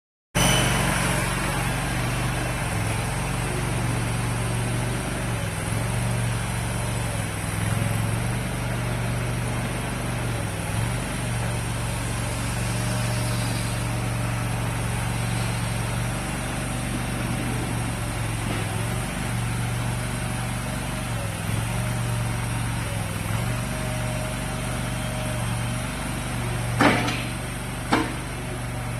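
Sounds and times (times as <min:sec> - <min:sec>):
loader engine running: 0:00.4 - 0:28.9.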